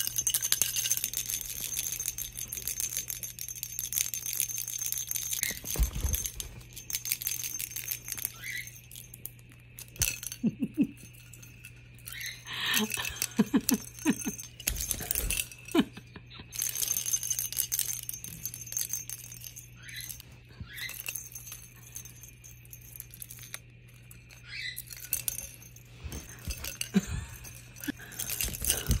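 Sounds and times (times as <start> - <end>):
plastic ball toy rattling: 0.0 - 15.9, 16.5 - 29.0.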